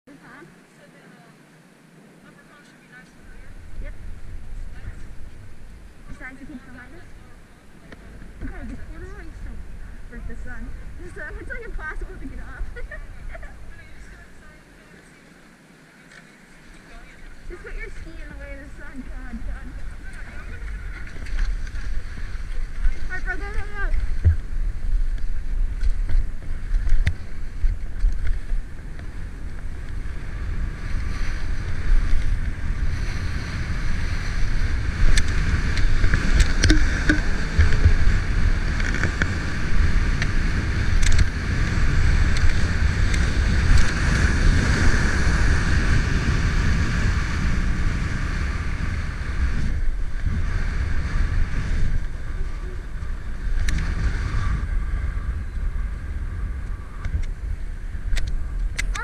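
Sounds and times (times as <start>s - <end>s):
wind buffeting microphone: 1.6s - 15.0s, 16.4s - 59.0s.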